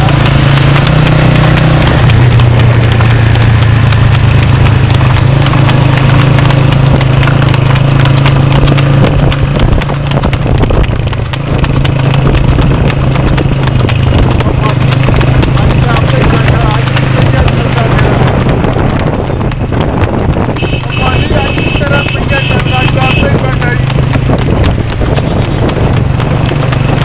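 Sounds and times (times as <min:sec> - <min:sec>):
cart rumbling: 0:00.0 - 0:27.0
horse hooves trotting on asphalt: 0:00.0 - 0:27.0.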